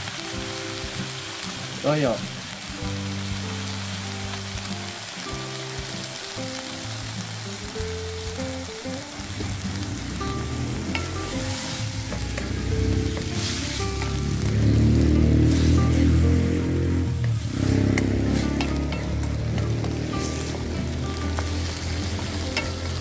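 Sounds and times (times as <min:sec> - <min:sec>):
background music: 0:00.0 - 0:23.0
meat sizzling in a wok: 0:00.0 - 0:23.0.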